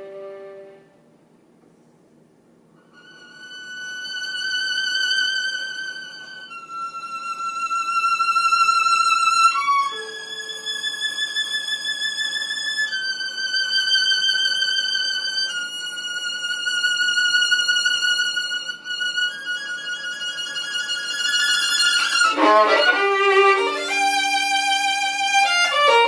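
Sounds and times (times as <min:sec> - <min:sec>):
solo violin playing slow notes: 0:00.0 - 0:00.9, 0:02.8 - 0:26.0.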